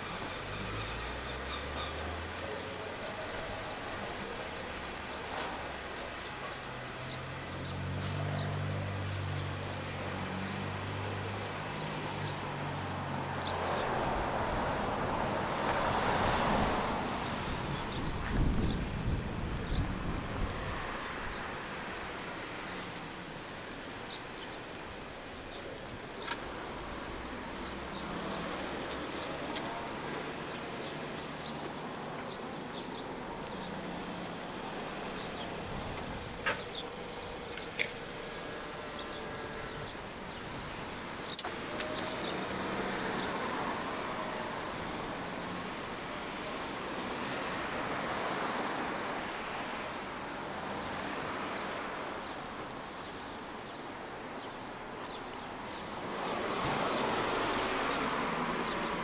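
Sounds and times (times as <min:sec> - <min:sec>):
cars passing by: 0:00.0 - 0:59.0
road traffic hum: 0:00.0 - 0:59.0.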